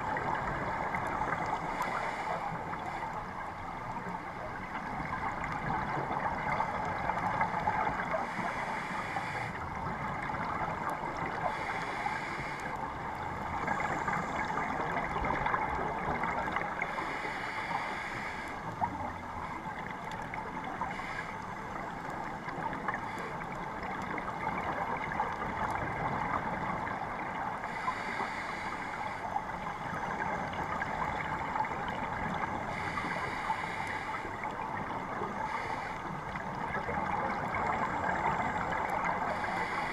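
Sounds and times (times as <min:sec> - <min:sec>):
muffled underwater breathing: 0:00.0 - 0:25.1, 0:26.4 - 0:39.9.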